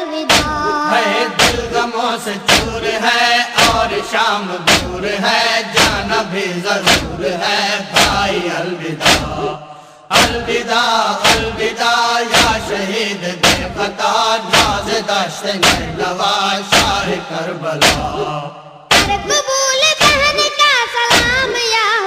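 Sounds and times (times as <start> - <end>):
heavy drum beat: 0.2 - 3.0, 3.6 - 17.2, 17.8 - 18.3, 18.9 - 19.4, 20.0 - 21.5
male voices chanting: 0.2 - 19.3.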